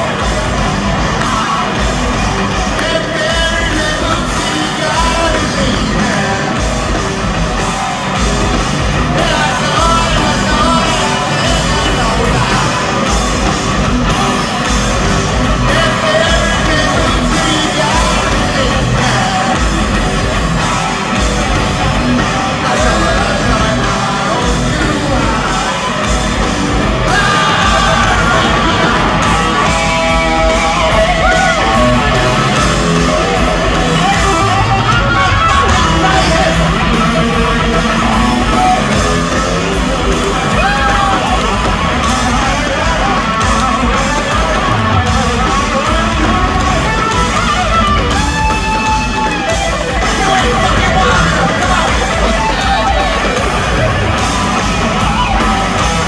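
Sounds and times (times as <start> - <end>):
distorted electric guitar: 0.0 - 56.0
drums: 0.0 - 56.0
sung vocals: 0.0 - 56.0.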